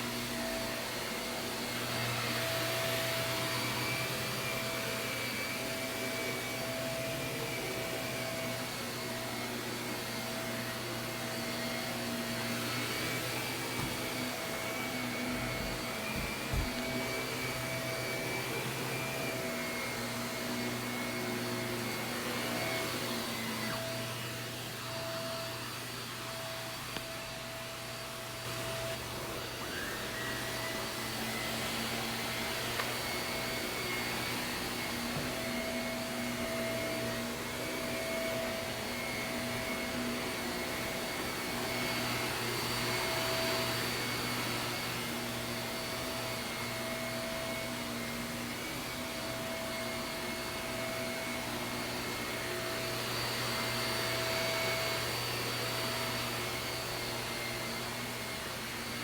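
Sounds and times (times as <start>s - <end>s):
vacuum cleaner running over carpet: 0.0s - 59.0s.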